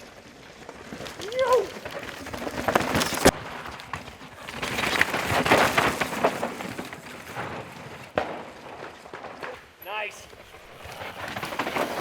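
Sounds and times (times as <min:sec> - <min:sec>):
bike rattling: 0:00.0 - 0:12.0
bike tyres crunching on rocks: 0:00.0 - 0:12.0.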